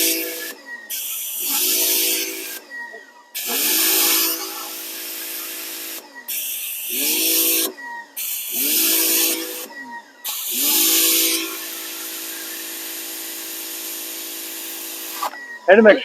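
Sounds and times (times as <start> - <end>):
pressure washer spraying: 0.0 - 2.7, 3.3 - 15.8.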